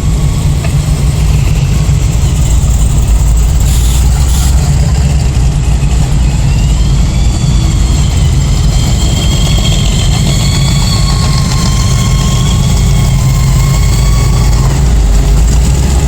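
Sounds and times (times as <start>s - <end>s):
car engines low rumble: 0.0s - 16.0s
faint high whine: 0.2s - 16.0s.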